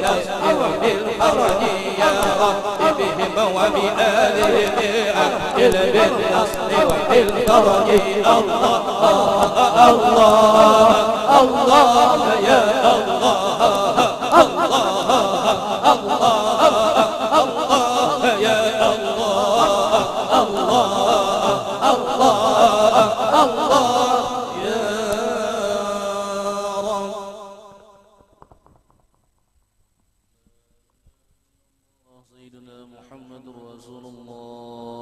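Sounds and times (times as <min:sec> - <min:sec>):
man chanting into a microphone: 0:00.0 - 0:27.6, 0:32.1 - 0:35.0.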